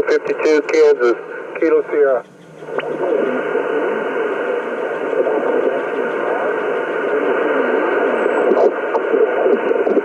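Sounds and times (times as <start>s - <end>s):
radio static hiss: 0.0s - 10.0s
thin radio speech: 0.0s - 10.0s.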